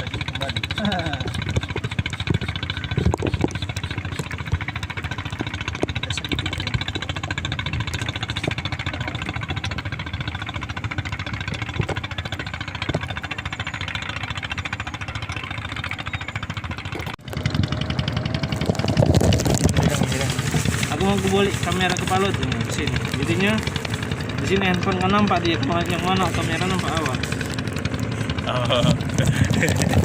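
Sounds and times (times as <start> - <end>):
small engine idling: 0.0 - 30.0.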